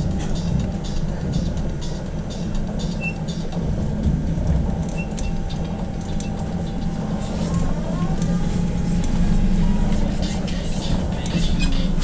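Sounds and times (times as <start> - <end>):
road rumble: 0.0 - 12.0
trolleybus hum: 0.0 - 12.0.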